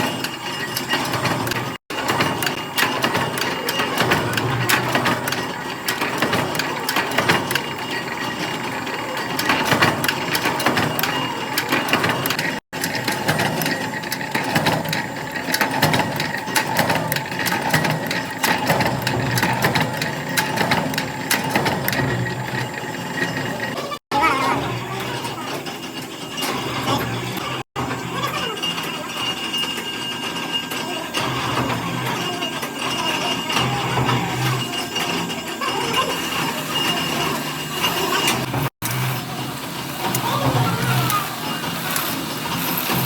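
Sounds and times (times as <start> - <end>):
machinery clattering: 0.0 - 43.0.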